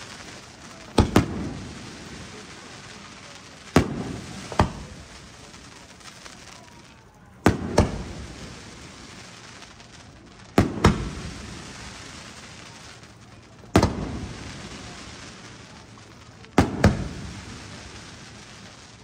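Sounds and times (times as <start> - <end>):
firework shells bursting: 0.0 - 18.6.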